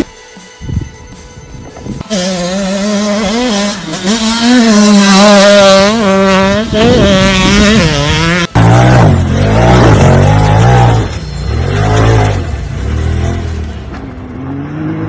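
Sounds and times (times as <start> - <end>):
engine revving: 2.0 - 15.0
lower-pitched engine revving: 2.0 - 15.0.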